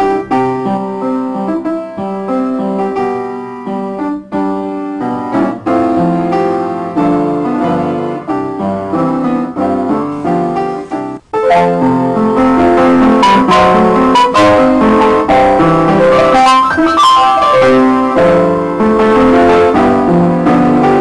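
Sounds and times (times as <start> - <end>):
lively piano music: 0.0 - 21.0.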